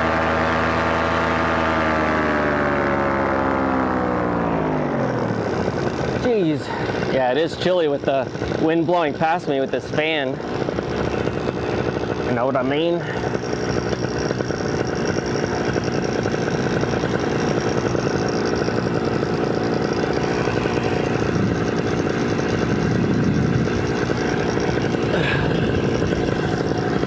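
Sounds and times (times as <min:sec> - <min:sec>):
paramotor engine running: 0:00.0 - 0:27.0.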